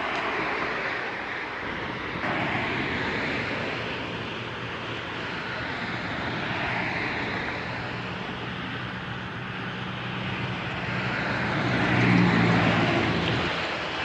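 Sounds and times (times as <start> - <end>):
road traffic: 0.0 - 14.0
truck passing: 0.0 - 14.0.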